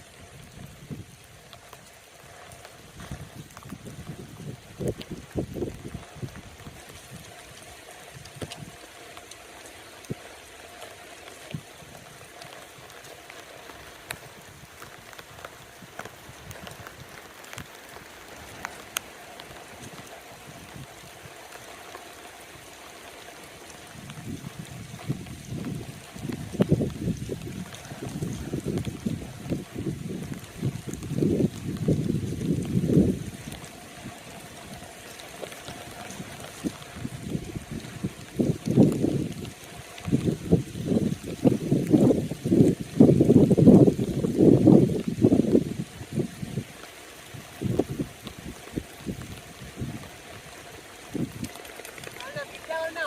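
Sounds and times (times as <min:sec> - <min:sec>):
raindrops tapping an umbrella: 0:00.0 - 0:53.0
steady rain: 0:00.0 - 0:53.0
wind buffeting microphone: 0:00.0 - 0:53.0.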